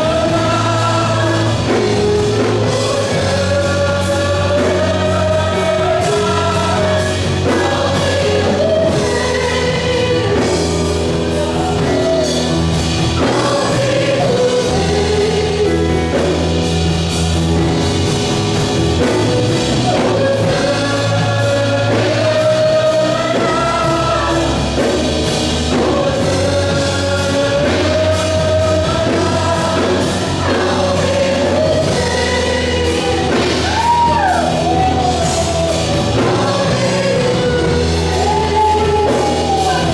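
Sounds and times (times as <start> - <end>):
gospel band playing: 0.0 - 39.9
steady bass line: 0.0 - 39.9
voices singing held notes: 0.0 - 39.9.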